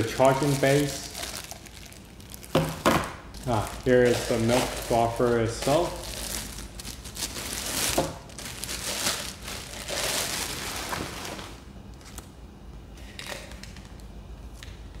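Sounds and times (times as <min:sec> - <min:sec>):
packaging crinkling and rustling: 0:00.0 - 0:12.3.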